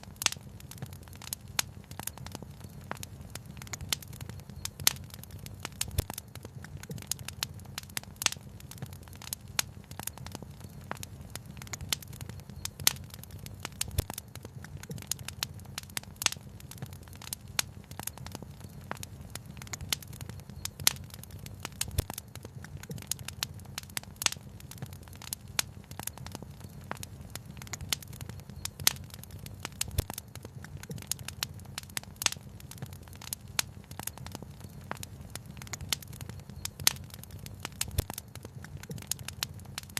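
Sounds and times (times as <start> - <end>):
fire crackling and snapping: 0.0 - 39.9
low fire rumble: 0.0 - 39.9.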